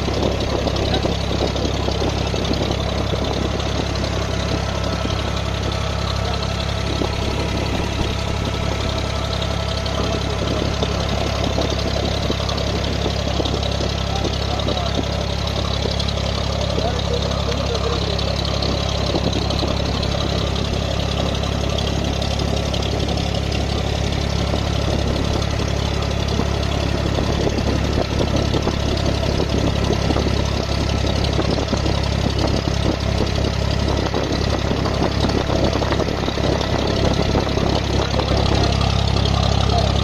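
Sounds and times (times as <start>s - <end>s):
boat diesel engine drone: 0.0s - 40.0s.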